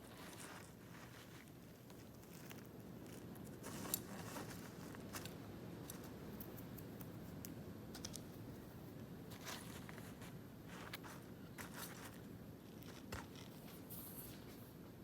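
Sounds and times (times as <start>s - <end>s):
handling clicks and rustles: 0.0s - 8.7s, 9.3s - 14.6s.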